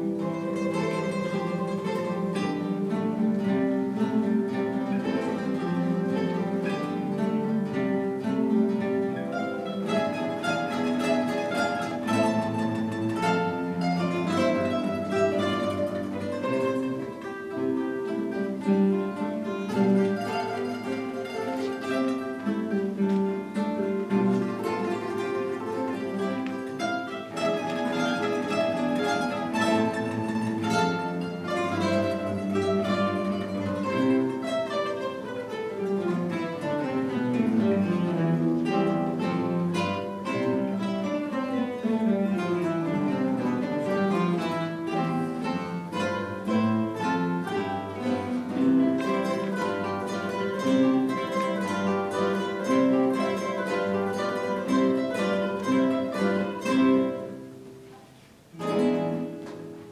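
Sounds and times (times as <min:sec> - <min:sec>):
acoustic guitar ensemble playing: 0:00.0 - 0:59.9.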